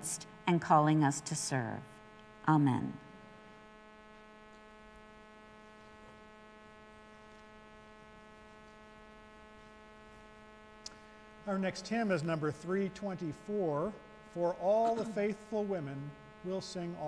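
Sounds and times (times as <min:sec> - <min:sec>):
faint mains hum: 0:00.0 - 0:17.0.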